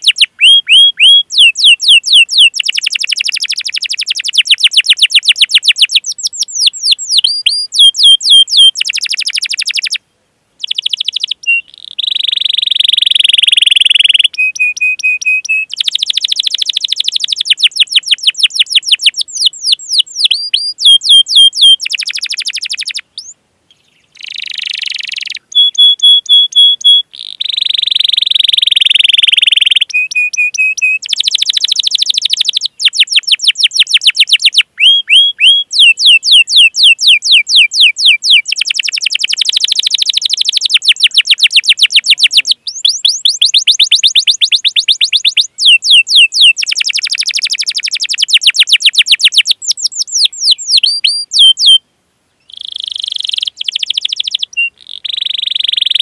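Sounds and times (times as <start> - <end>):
canary singing trills and chirps: 0.0 - 10.0, 10.6 - 51.8, 52.4 - 56.0.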